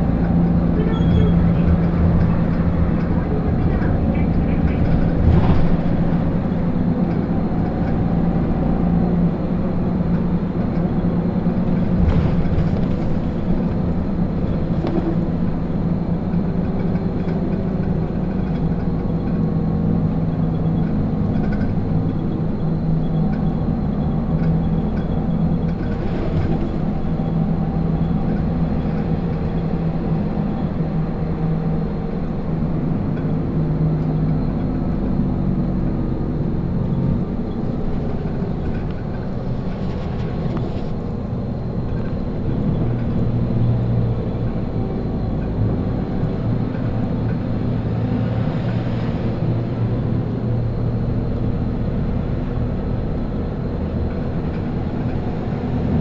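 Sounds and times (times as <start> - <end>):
diesel bus engine drone: 0.0 - 56.0.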